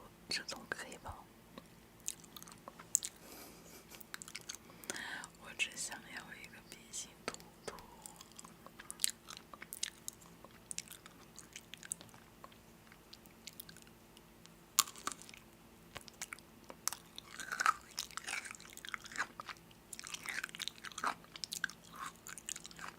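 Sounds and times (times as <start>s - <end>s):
faint steady hum: 0.0s - 22.9s
person chewing crunchy food: 1.6s - 5.0s, 7.3s - 22.9s.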